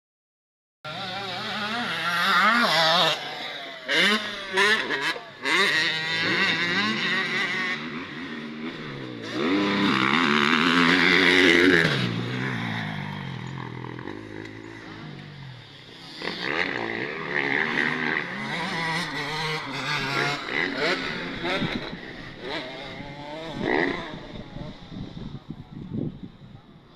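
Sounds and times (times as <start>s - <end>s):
vehicle engine revving: 0.9s - 25.2s.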